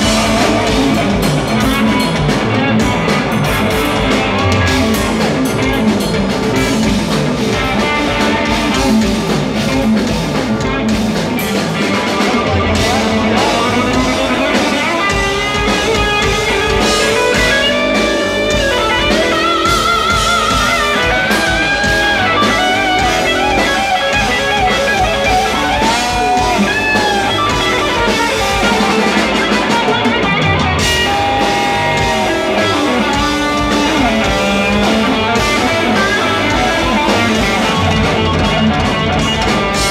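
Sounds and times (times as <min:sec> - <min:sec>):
bass guitar: 0:00.0 - 0:39.9
drum kit: 0:00.0 - 0:39.9
electric guitar lead line: 0:00.0 - 0:39.9.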